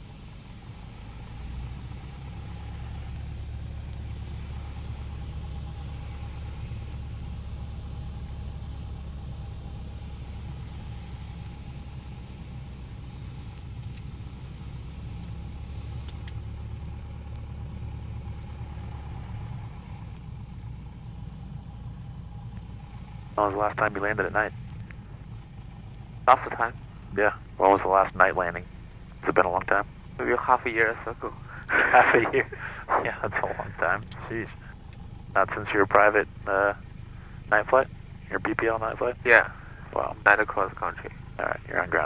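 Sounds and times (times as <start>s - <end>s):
aircraft engine low rumble: 0.0s - 42.0s.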